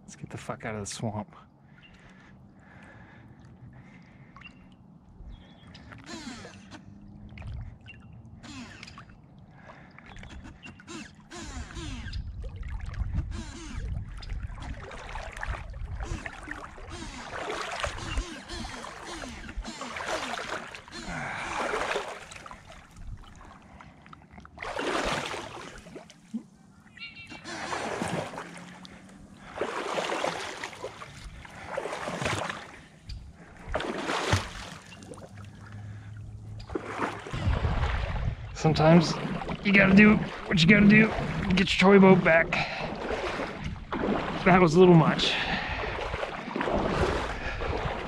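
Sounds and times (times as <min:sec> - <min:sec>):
legs wading through water: 0:01.5 - 0:48.0
water trickling and gurgling: 0:01.6 - 0:48.0.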